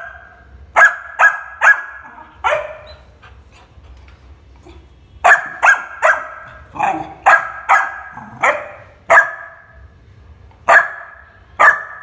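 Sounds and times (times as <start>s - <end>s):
puppy barking: 0.0s - 3.2s, 4.7s - 9.8s, 10.6s - 12.0s.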